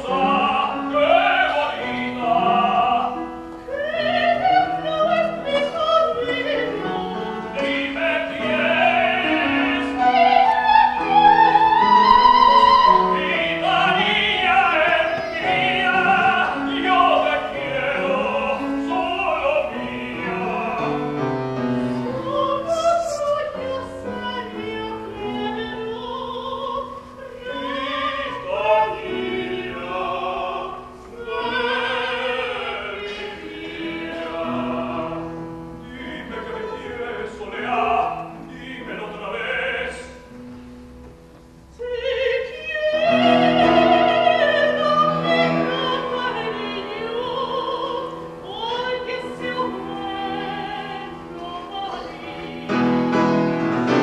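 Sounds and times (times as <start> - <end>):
operatic singing: 0.0 - 40.4, 41.7 - 54.0
piano: 0.0 - 54.0.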